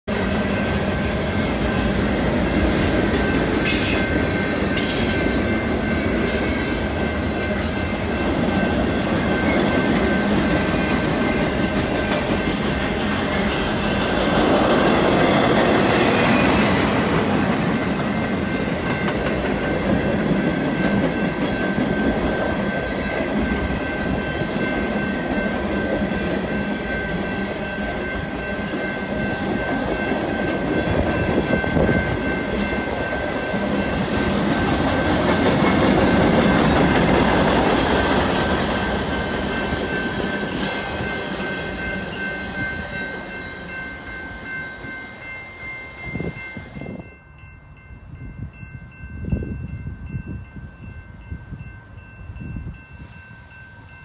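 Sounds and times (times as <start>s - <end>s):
crossing warning bell ringing: 0.1s - 54.0s
train wheels rumbling on rail: 0.1s - 54.0s.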